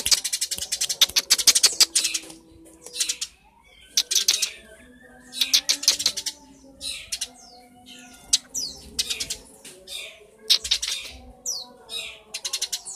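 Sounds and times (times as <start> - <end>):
sparrow chirping: 0.0 - 12.9.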